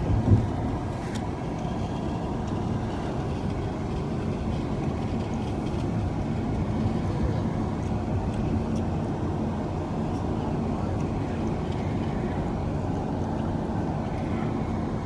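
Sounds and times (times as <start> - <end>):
car road noise from inside: 0.0 - 15.0.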